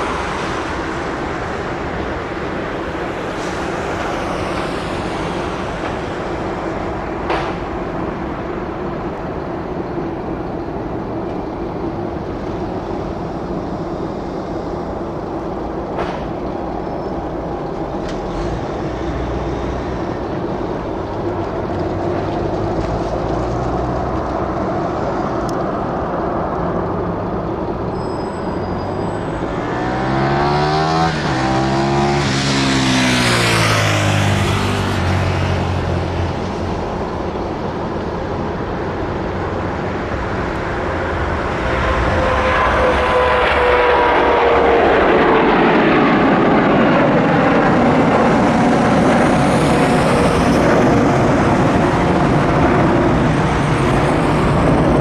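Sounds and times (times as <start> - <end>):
jet engines rumbling and whining: 0.0 - 55.0.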